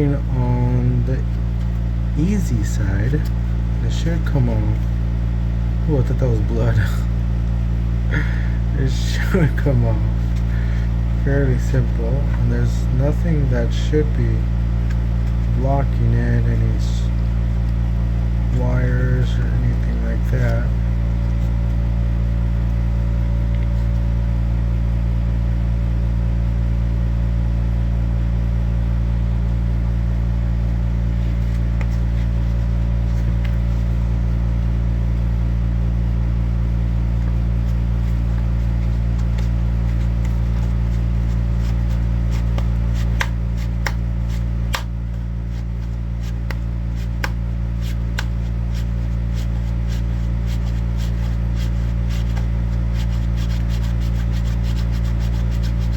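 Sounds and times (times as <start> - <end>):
low electric hum: 0.0 - 55.9.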